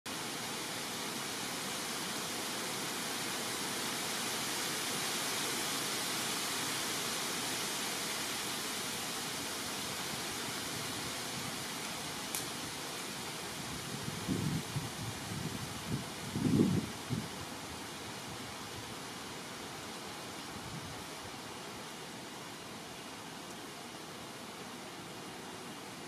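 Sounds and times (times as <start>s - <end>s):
steady rushing hiss: 0.1s - 26.0s.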